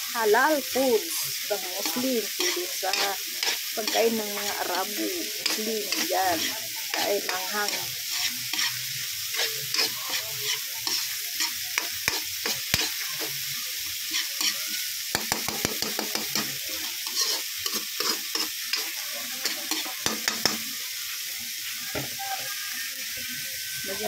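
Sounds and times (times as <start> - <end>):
frying hiss: 0.0 - 24.0
spatula scraping a wok: 1.0 - 21.6.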